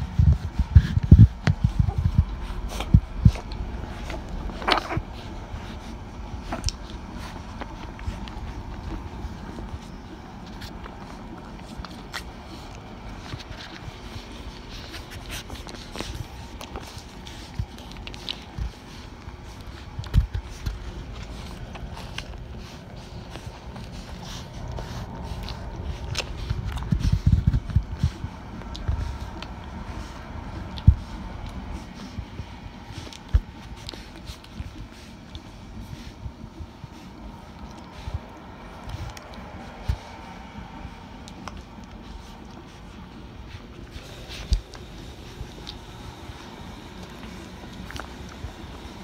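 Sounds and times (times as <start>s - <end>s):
soft muffled bumps: 0.0s - 47.7s
puppies sucking and slurping: 0.0s - 49.0s
rustling fur: 0.0s - 49.0s.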